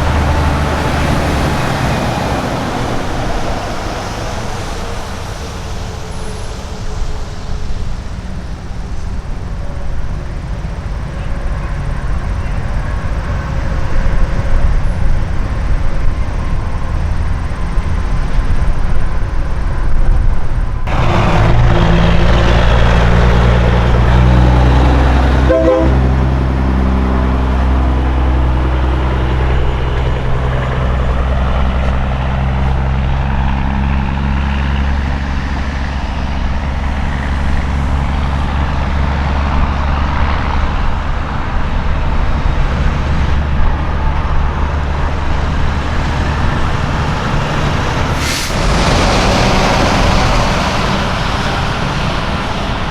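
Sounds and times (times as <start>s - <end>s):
diesel truck engine drone: 0.0s - 52.9s
truck traffic noise: 0.0s - 52.9s.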